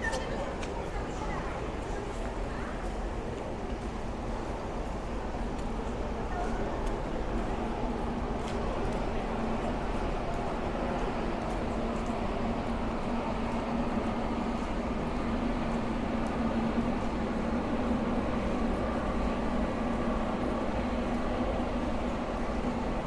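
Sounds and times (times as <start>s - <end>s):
city street noise: 0.0s - 23.0s.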